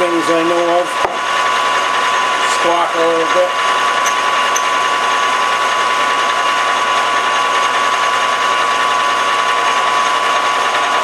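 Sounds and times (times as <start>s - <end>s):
lathe drilling with high whine: 0.0s - 11.0s.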